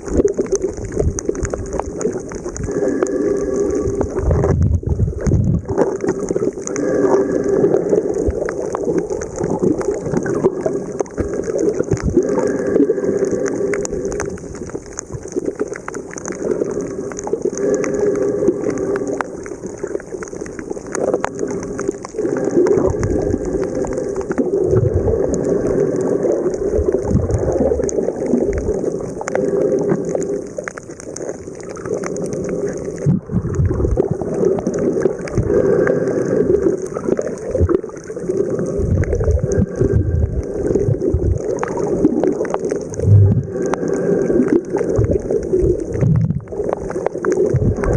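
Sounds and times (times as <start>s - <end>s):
underwater crackling clicks: 0.0s - 47.9s.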